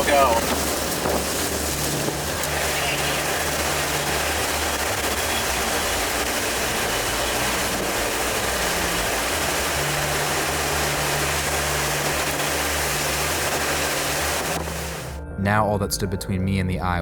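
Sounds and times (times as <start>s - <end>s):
wind and rain lashing a car: 0.0s - 15.2s
car engine humming low: 0.0s - 16.4s.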